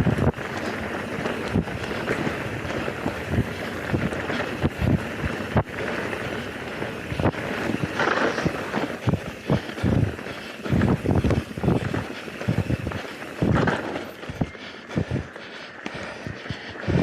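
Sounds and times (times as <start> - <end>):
bike knocks and thumps: 0.0 - 14.2
wind on microphone: 0.0 - 15.3
bike tyres crunching on dirt: 0.0 - 17.0.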